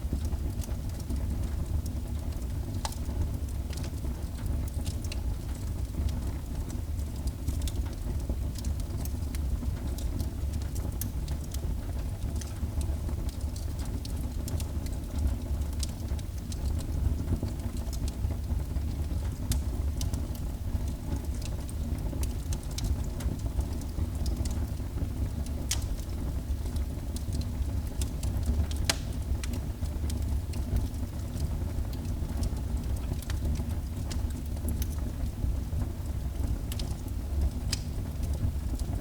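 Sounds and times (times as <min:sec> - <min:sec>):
fireplace fire rumbling: 0:00.0 - 0:39.0
fire crackling and popping: 0:00.1 - 0:39.0.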